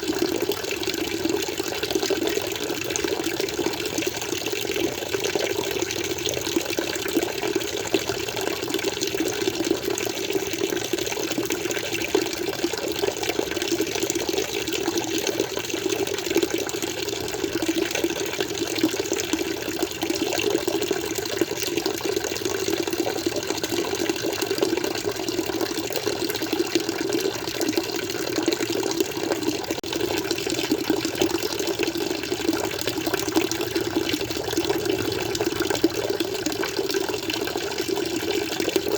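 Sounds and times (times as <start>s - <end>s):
water flowing and splashing: 0.0s - 38.9s.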